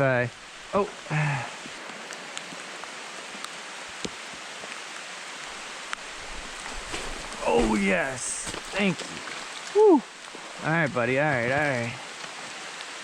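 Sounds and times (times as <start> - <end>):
steady rain hiss: 0.0 - 13.0
raindrops ticking close by: 0.1 - 13.0.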